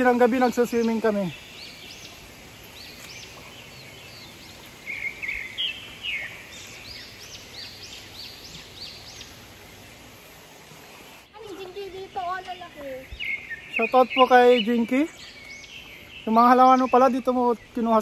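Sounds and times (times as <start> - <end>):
birds chirping: 0.0 - 18.0
steady background hiss: 0.0 - 18.0.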